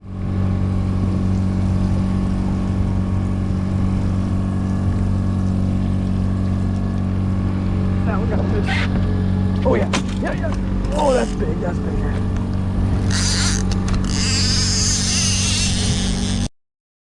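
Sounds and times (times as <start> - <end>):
outboard motor droning: 0.0 - 16.5.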